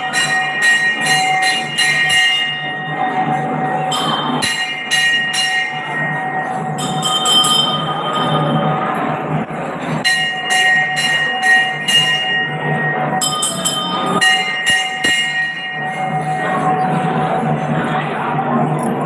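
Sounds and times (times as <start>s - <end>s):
metal temple bell ringing: 0.0s - 18.1s
steady background din: 0.0s - 19.0s.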